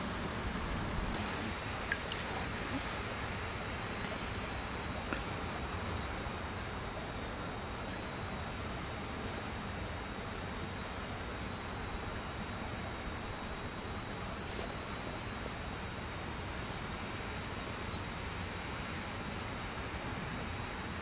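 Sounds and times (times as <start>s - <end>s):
water trickling over stones: 0.0s - 21.0s.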